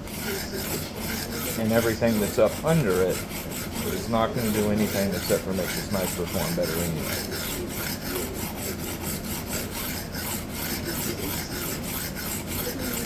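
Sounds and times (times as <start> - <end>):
knife grinding on sharpening plate: 0.0 - 13.0.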